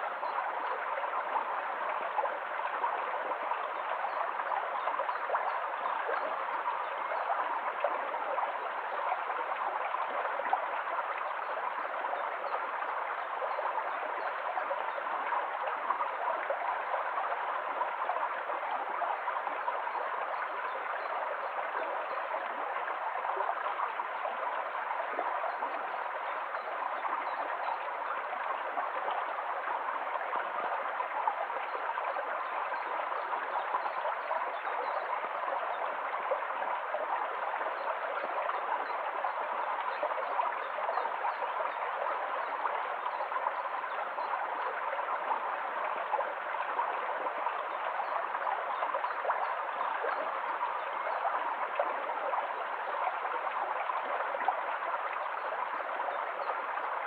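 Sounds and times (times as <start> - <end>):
creek flowing over stones: 0.0 - 57.0.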